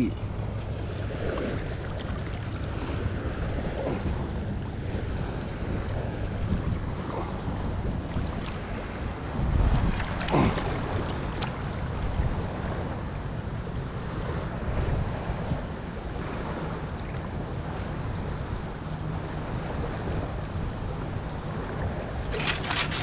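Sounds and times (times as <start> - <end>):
water sloshing in shallow surf: 0.0 - 23.0
wind on microphone: 0.0 - 23.0.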